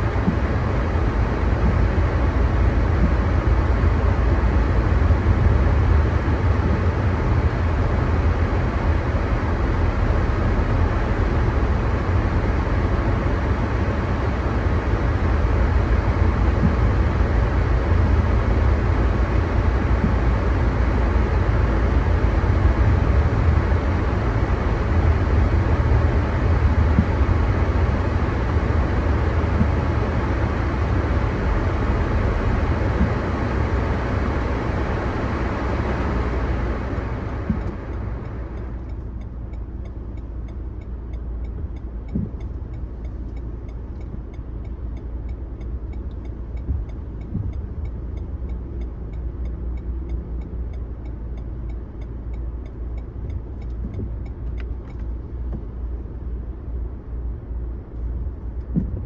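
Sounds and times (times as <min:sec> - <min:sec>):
car interior rumble: 0:00.0 - 0:59.0.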